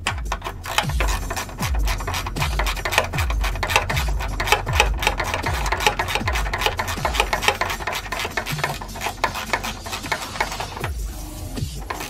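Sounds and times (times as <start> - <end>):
deep bass beat: 0.0 - 12.0
ratchet wrench clicking: 0.0 - 12.0.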